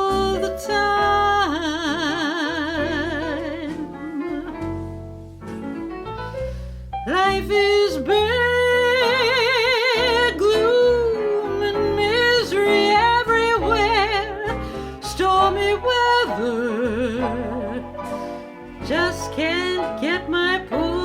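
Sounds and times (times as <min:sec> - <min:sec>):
woman singing: 0:00.0 - 0:04.6, 0:07.0 - 0:21.0
soft instrumental accompaniment: 0:00.0 - 0:21.0.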